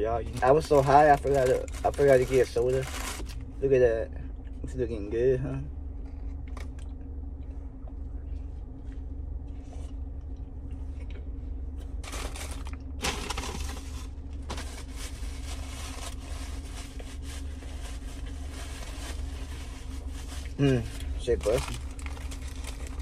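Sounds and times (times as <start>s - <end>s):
car cabin hum: 0.0s - 23.0s.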